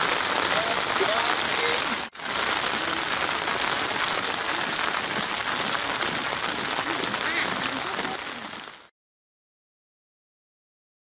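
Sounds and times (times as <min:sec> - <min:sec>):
heavy rain on pavement: 0:00.0 - 0:08.9.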